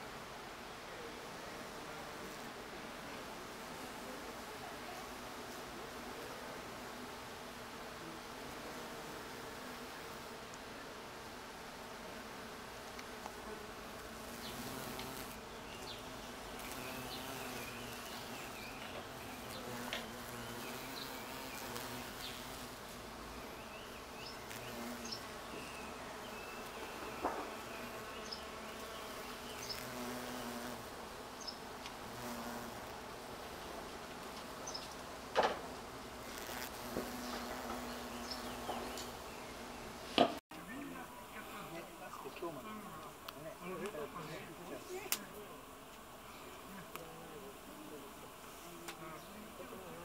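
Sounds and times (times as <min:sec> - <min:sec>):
bees buzzing: 0:01.4 - 0:50.0.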